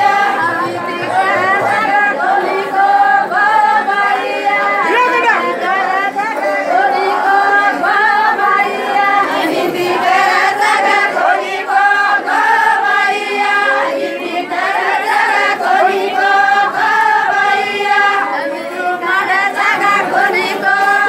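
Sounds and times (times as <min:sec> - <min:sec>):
women singing in unison: 0:00.0 - 0:21.0.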